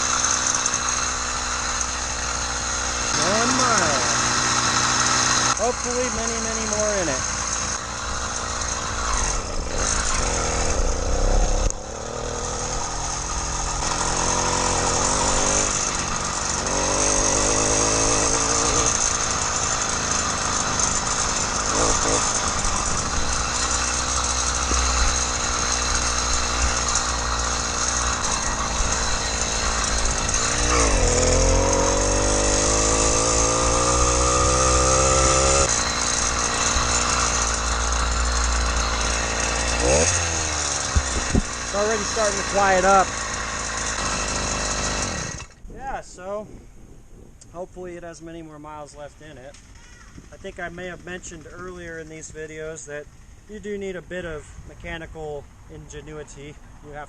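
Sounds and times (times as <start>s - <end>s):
two-stroke engine revving: 0.0s - 46.4s, 49.2s - 57.0s.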